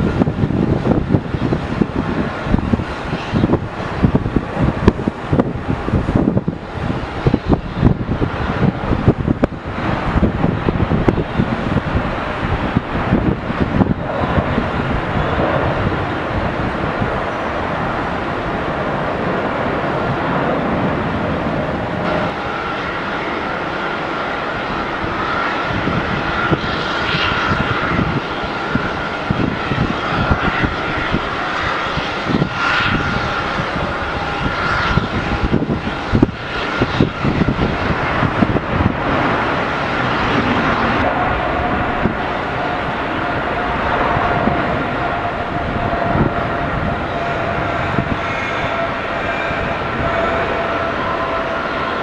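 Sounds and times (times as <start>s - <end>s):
jet airliner engines whining: 0.0s - 52.0s.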